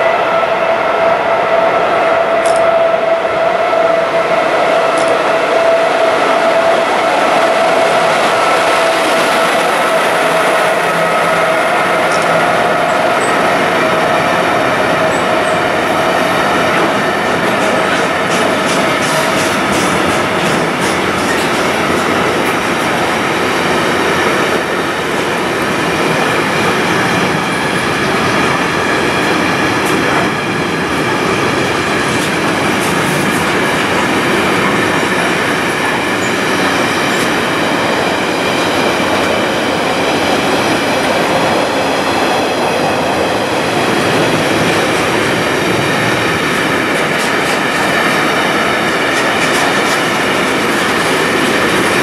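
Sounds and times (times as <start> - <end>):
steel wheels rushing on rail: 0.0 - 52.0.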